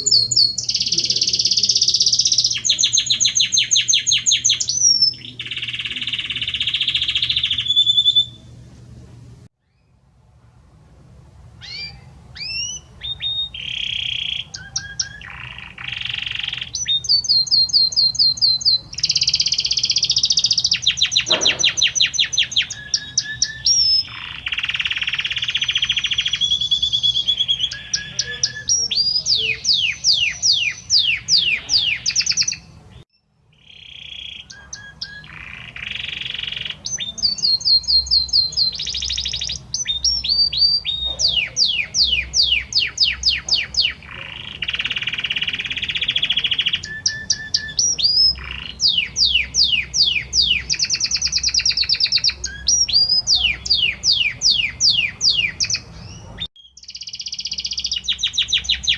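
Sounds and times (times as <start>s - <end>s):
canary singing: 0.0s - 10.0s, 11.6s - 58.9s.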